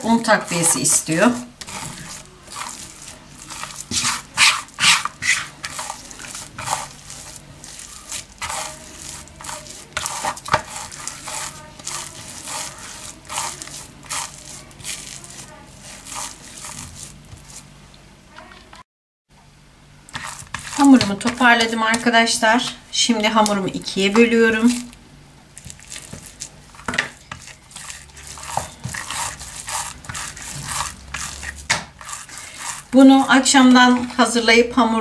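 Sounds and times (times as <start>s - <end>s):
hands kneading dough: 0.0s - 17.7s, 20.1s - 35.0s.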